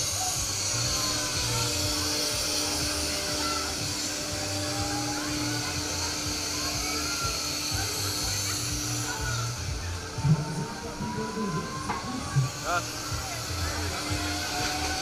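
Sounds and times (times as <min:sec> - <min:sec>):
faint dance music bass: 0:00.0 - 0:15.0.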